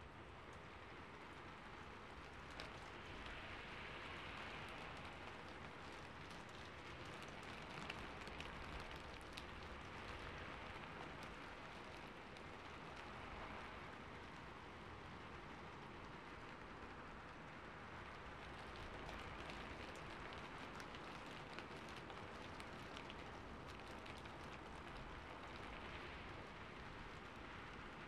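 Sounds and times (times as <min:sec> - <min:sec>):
faint rain on a rooftop: 0:00.0 - 0:28.0
raindrops ticking: 0:00.1 - 0:28.0.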